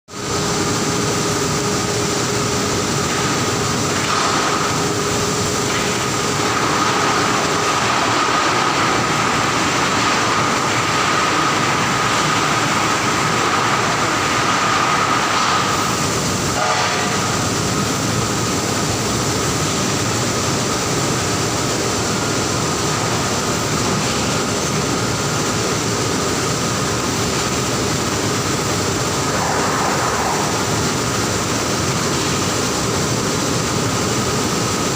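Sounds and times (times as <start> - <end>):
industrial machinery noise: 0.1 - 34.9.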